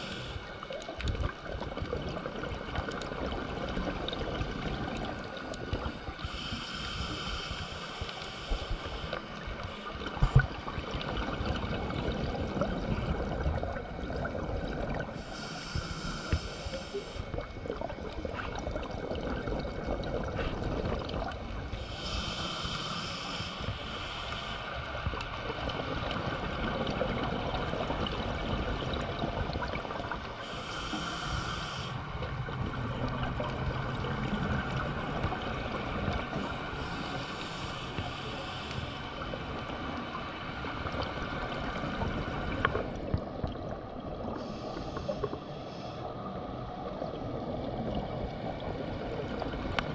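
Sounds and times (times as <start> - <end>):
scuba exhaust bubbles hissing: 0.0 - 49.9
underwater low rumble: 0.0 - 49.9.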